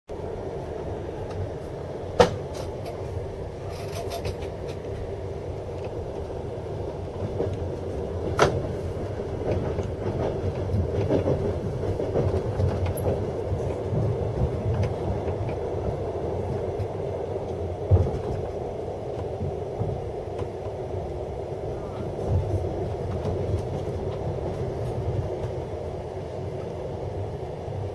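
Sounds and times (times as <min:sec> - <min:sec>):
train rumbling: 0:00.1 - 0:27.9.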